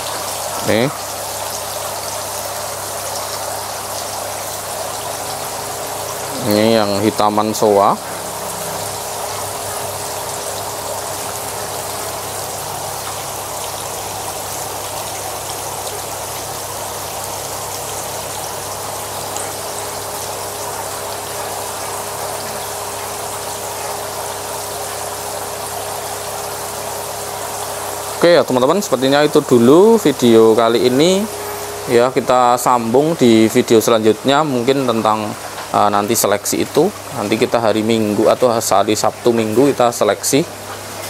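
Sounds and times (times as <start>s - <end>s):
water splashing and bubbling: 0.0s - 41.0s.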